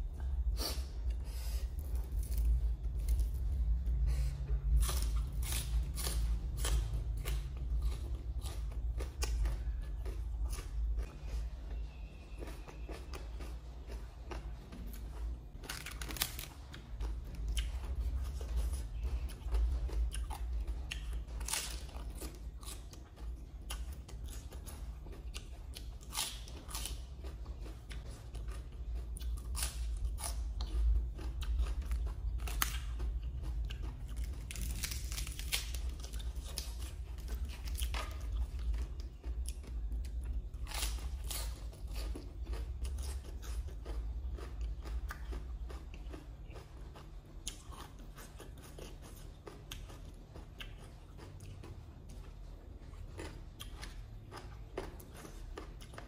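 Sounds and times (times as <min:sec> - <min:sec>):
steady low hum: 0:00.0 - 0:56.0
wet crunching and chewing: 0:00.1 - 0:56.0.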